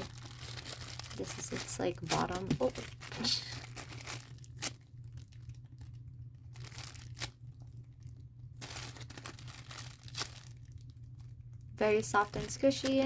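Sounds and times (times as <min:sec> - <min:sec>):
foam squishy toy crinkling: 0:00.0 - 0:13.0.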